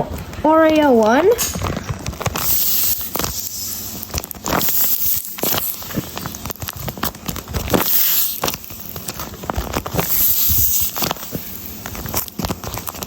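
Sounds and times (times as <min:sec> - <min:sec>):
paper crinkling when squeezed: 0:00.2 - 0:13.0.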